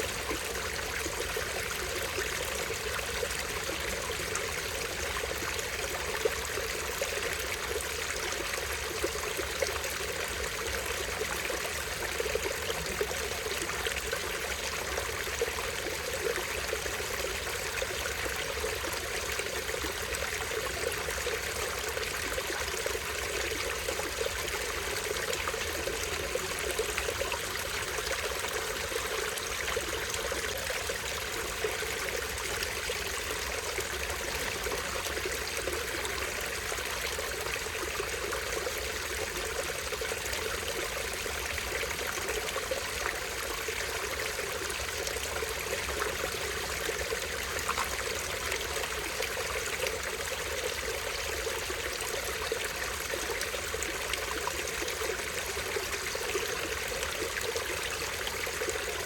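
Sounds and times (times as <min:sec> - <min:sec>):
stream splashing over small waterfall: 0:00.0 - 0:59.0.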